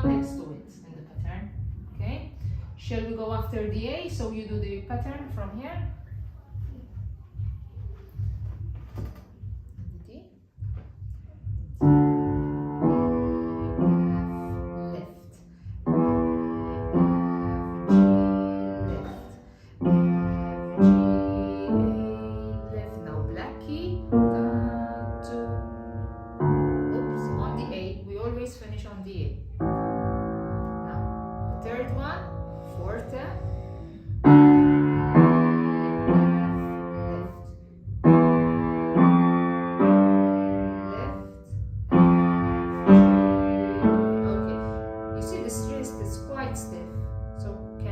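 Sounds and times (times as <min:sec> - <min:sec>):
slow piano notes: 0:00.0 - 0:04.2, 0:11.4 - 0:28.7, 0:29.4 - 0:47.9.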